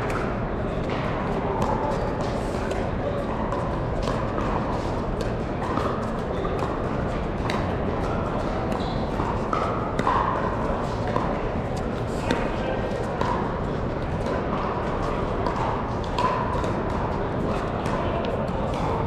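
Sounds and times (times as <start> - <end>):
din of large hall: 0.0 - 19.0.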